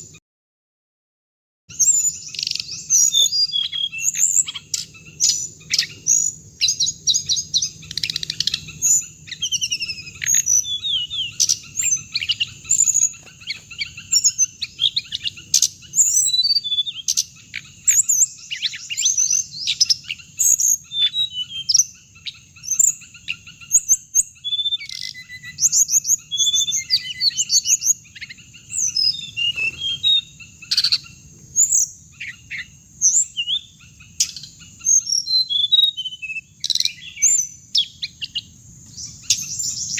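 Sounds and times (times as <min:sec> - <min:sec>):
birds chirping and trilling: 0:01.7 - 0:39.9.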